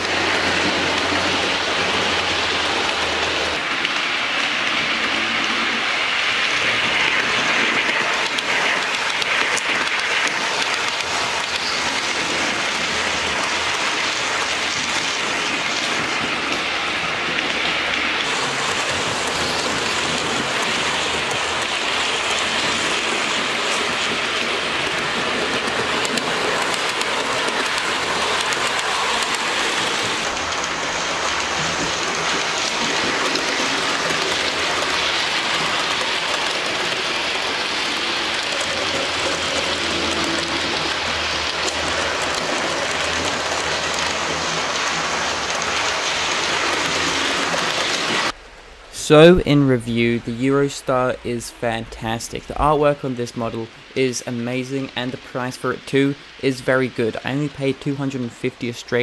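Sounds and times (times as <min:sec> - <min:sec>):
model train motors whirring: 0:00.0 - 0:48.4.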